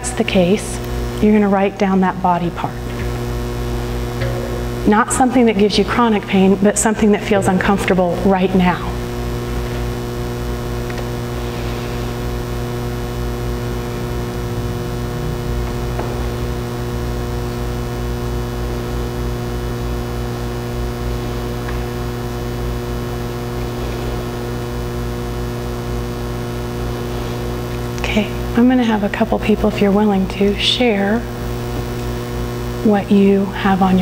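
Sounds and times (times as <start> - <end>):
electrical mains hum: 0.0 - 34.0.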